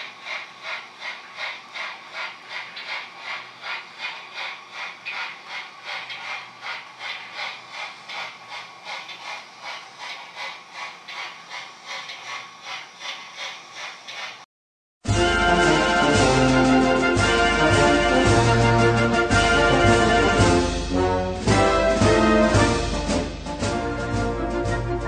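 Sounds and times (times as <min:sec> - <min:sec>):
model steam locomotive chuffing: 0:00.0 - 0:14.5, 0:15.1 - 0:24.9.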